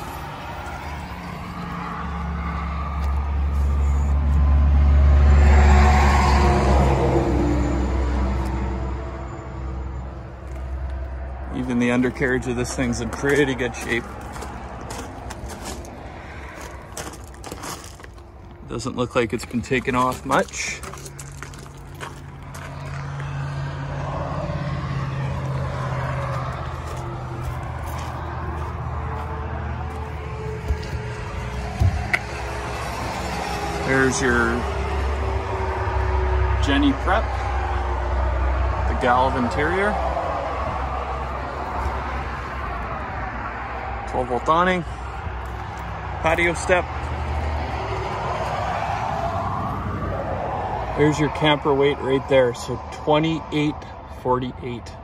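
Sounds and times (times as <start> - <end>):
vehicle driving past: 0.0 - 18.5, 19.9 - 53.9.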